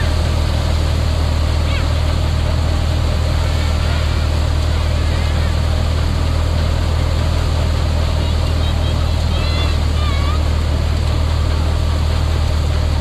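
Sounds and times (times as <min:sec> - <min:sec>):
thresher motor hum: 0:00.0 - 0:13.0.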